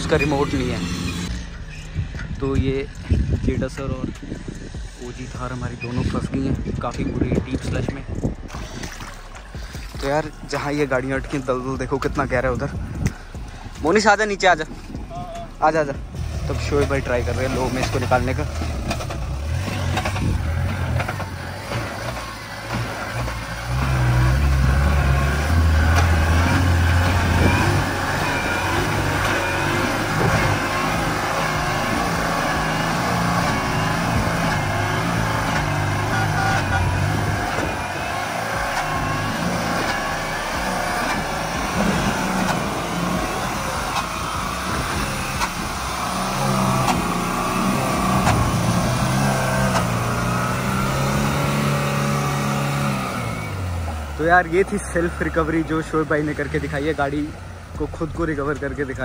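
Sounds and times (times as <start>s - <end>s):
engine revving hard: 0.0s - 1.6s, 8.5s - 59.0s.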